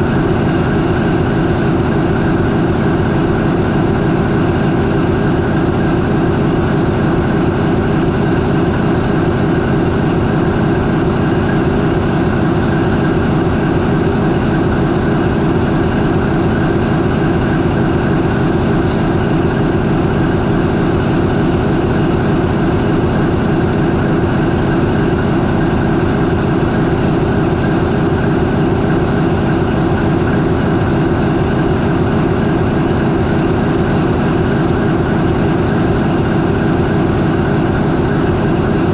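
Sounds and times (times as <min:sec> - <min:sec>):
marine diesel engine idling: 0:00.0 - 0:38.9.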